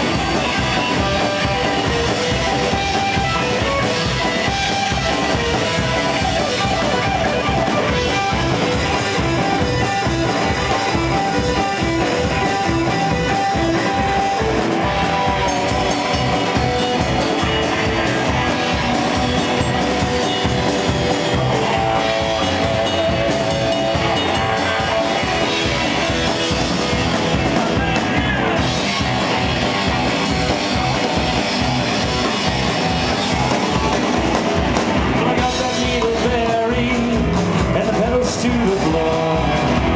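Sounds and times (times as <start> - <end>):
live rock and roll band: 0.0 - 39.9.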